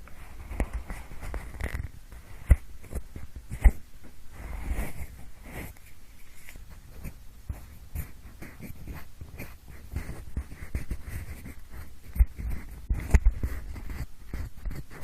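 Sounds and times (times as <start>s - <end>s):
pencil scratching at microphone: 0.0s - 15.0s.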